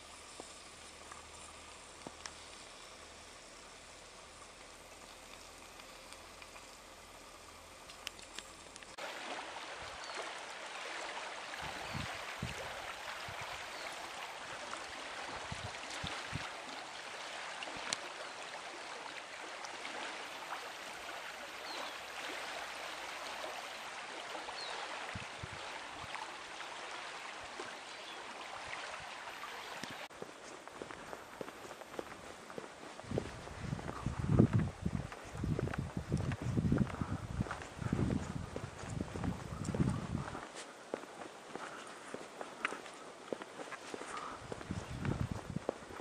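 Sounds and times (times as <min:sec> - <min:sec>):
river water flowing: 0:00.0 - 0:35.4, 0:36.2 - 0:46.0.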